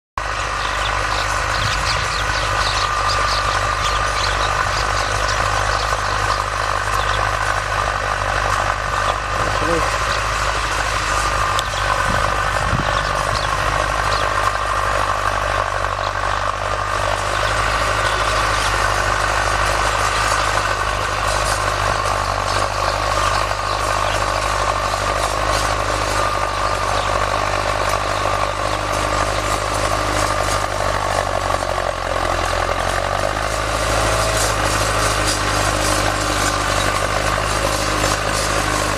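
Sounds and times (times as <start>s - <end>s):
diesel tractor engine under load: 0.2s - 38.9s.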